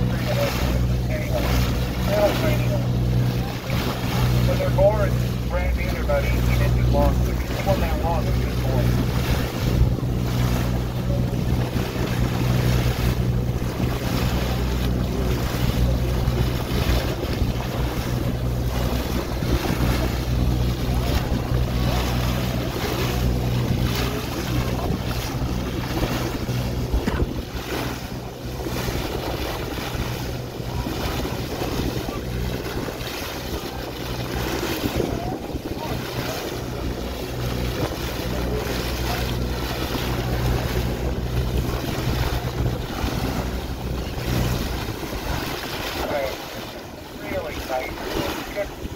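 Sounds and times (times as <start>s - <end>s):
boat engine humming: 0.0s - 48.9s
water rushing along hull: 0.0s - 48.9s
wind on microphone: 6.3s - 46.6s.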